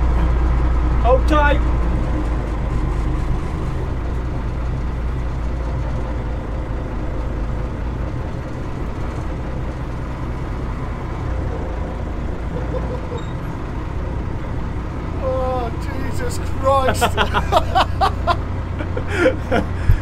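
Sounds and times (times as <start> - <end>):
truck engine running under load: 0.0 - 20.0.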